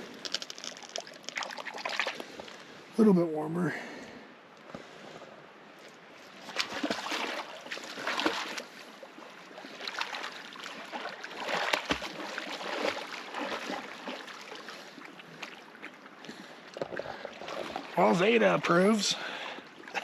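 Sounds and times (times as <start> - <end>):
water sloshing and splashing: 0.0 - 2.9, 5.1 - 20.0.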